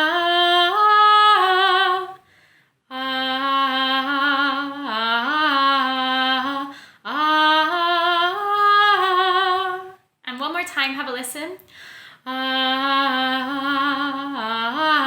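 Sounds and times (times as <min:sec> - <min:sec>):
woman singing unaccompanied: 0:00.0 - 0:02.2, 0:02.9 - 0:11.2, 0:12.2 - 0:15.0.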